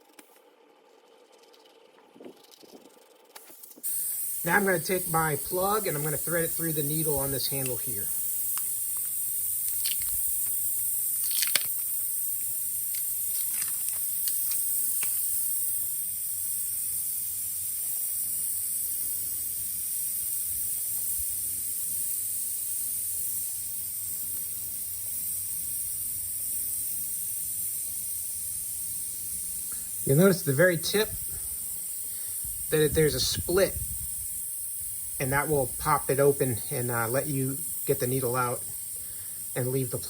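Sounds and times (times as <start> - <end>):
high-pitched hiss: 1.2 - 40.0.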